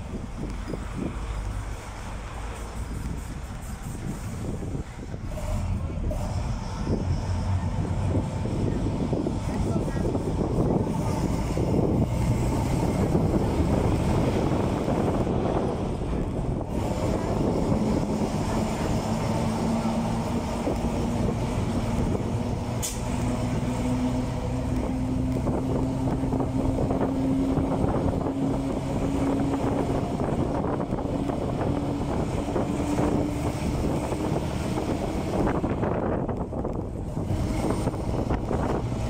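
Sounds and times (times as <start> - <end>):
bus engine droning: 0.0 - 39.0.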